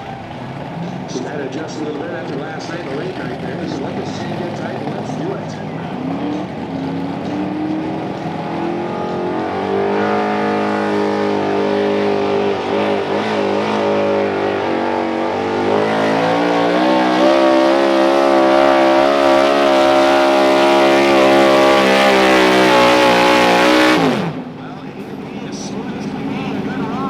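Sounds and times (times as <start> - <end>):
engine at full throttle: 0.0 - 27.0.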